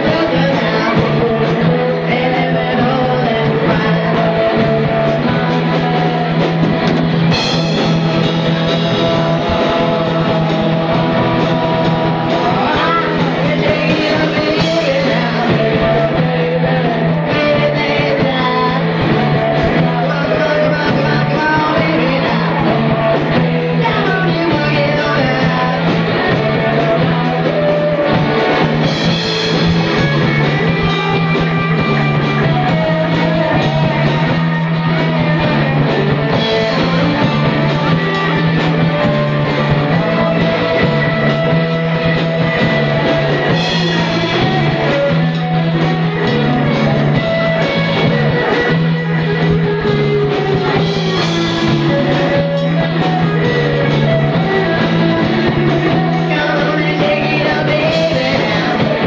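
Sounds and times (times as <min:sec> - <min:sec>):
bass guitar: 0:00.0 - 0:59.0
drum kit: 0:00.0 - 0:59.0
electric guitars: 0:00.0 - 0:59.0
person singing into a microphone: 0:00.0 - 0:59.0.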